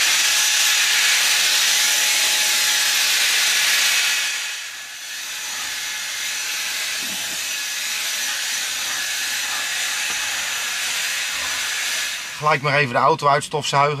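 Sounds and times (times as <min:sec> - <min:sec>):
handheld vacuum cleaner running: 0:00.0 - 0:12.9.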